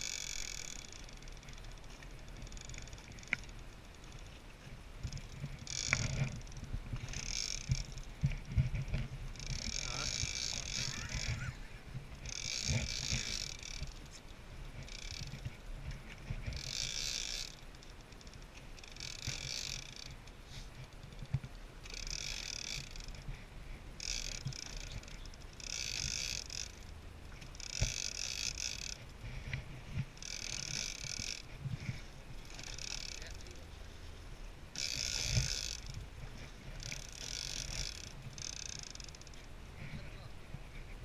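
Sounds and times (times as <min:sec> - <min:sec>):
fishing reel ratcheting: 0:00.0 - 0:34.0, 0:34.7 - 0:40.0
low steady hum: 0:00.0 - 0:41.0.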